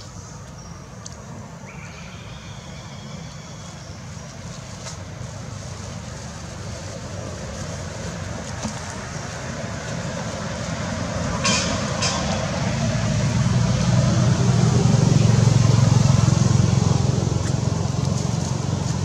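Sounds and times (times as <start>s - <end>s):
passing motor vehicle rumble: 0.0s - 19.0s.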